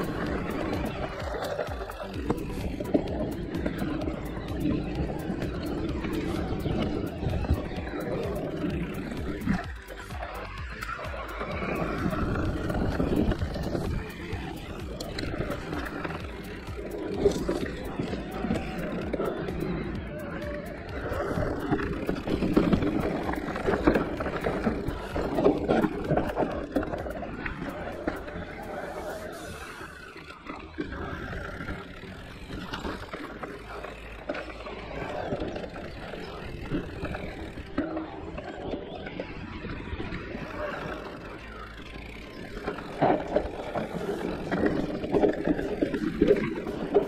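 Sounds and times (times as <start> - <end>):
bike knocking and rattling: 0.0 - 47.0
bike tyres rolling over dirt: 0.0 - 47.0.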